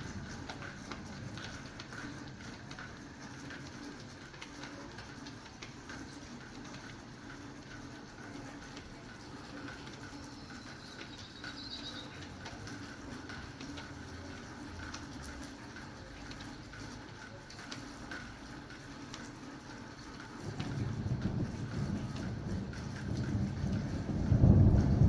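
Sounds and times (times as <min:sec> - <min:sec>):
rain pattering and dripping: 0:00.0 - 0:25.0.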